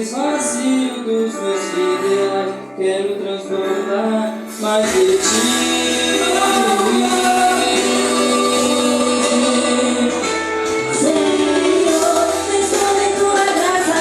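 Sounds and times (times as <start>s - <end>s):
live instruments playing: 0.0s - 14.0s
person singing worship song: 0.0s - 14.0s.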